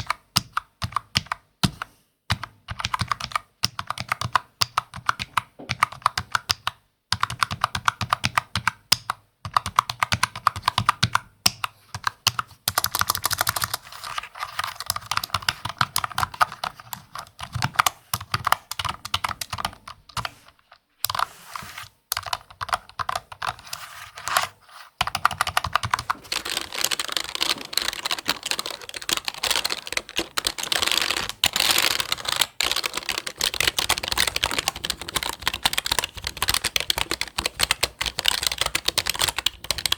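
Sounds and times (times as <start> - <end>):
typing on computer keyboard: 0.0 - 20.3, 22.1 - 23.8, 25.0 - 39.9.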